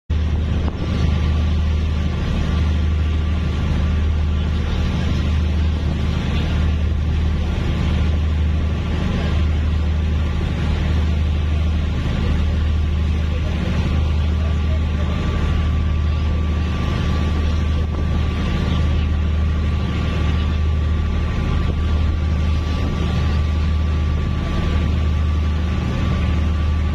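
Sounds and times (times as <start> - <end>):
hiss of wind and water: 0.1 - 26.9
ship engines droning: 0.1 - 26.9.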